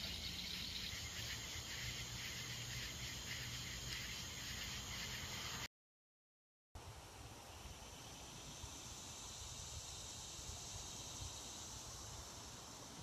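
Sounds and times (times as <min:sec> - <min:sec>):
insect chorus buzzing: 0:00.0 - 0:05.7, 0:07.2 - 0:13.0.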